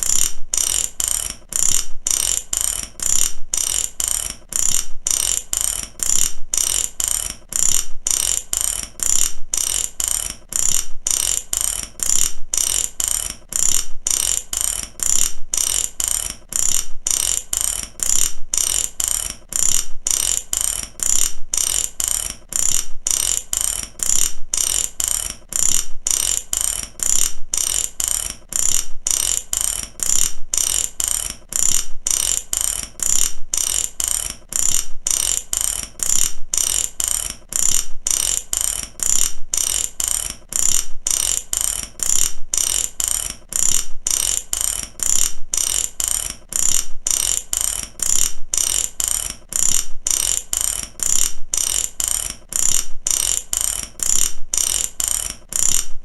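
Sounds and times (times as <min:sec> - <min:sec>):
ratchet wrench clicking: 0:00.0 - 0:56.0.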